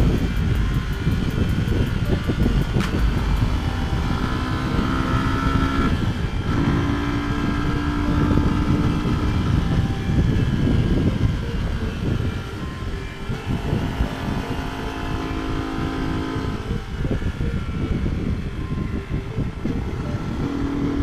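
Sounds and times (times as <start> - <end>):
motorcycle engine running: 0.0 - 21.0
wind rumble on microphone: 0.0 - 21.0.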